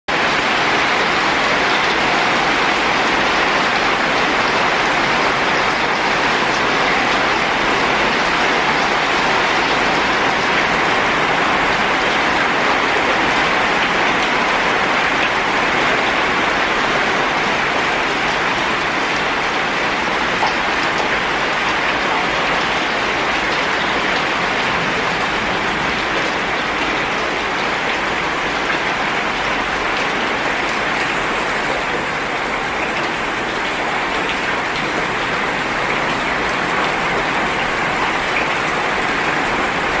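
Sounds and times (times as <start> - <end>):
heavy rain falling: 0.1 - 40.0.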